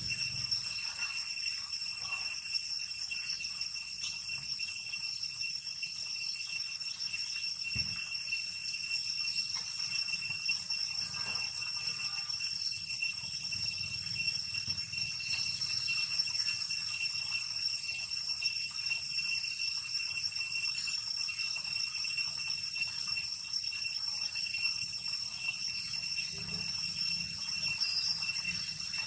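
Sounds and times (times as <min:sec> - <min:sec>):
shrill insect chorus: 0:00.0 - 0:29.0.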